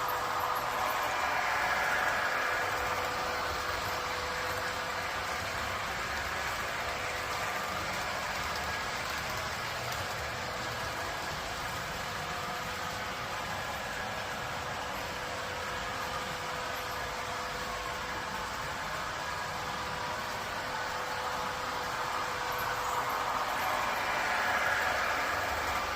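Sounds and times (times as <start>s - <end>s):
train rumbling on track: 0.0s - 25.9s.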